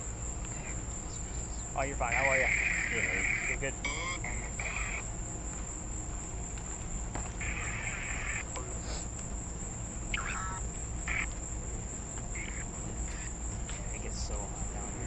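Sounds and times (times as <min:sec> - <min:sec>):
insect buzzing: 0:00.0 - 0:15.0
low background rumble: 0:00.0 - 0:15.0
night insects trilling: 0:00.0 - 0:15.0.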